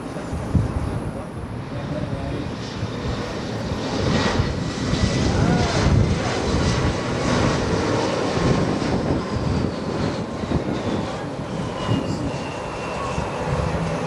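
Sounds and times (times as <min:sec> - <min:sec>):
plane engines passing: 0:00.0 - 0:14.0.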